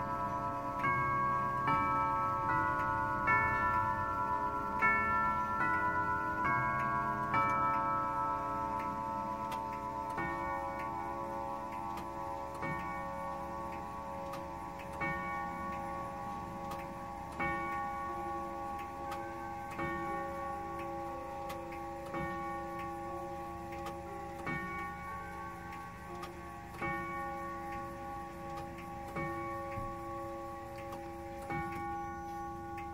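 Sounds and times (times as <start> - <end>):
clock ticking faintly: 0.0 - 32.9
tubular bell clock striking: 0.0 - 32.9.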